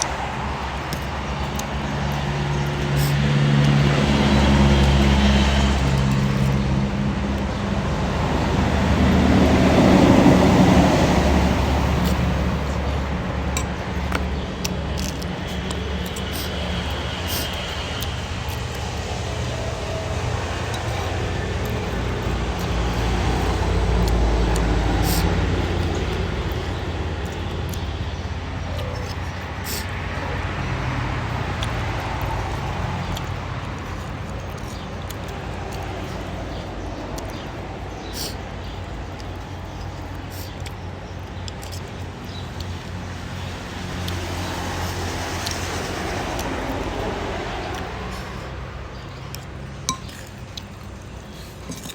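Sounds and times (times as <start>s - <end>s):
road traffic rumble: 0.0s - 51.9s
vehicle passing by: 0.0s - 51.9s.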